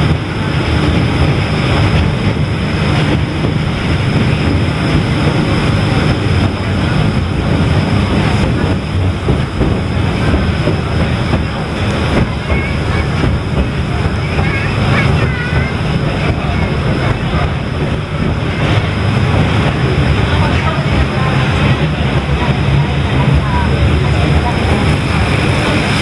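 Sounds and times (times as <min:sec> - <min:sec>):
tram wheels rumbling on rail: 0:00.0 - 0:26.0.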